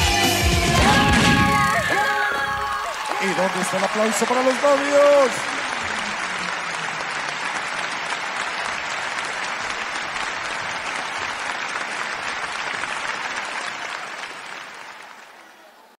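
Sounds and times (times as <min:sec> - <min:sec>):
crowd applauding: 0:00.7 - 0:15.9.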